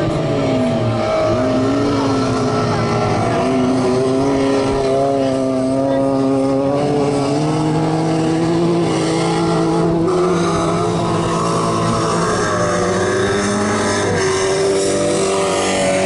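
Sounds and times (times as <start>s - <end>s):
racing car engines accelerating: 0.0s - 16.0s.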